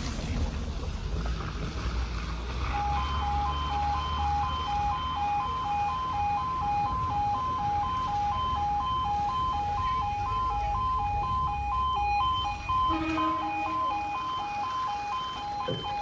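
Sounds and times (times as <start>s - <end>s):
crossing alarm two-tone yodel: 2.6s - 16.0s.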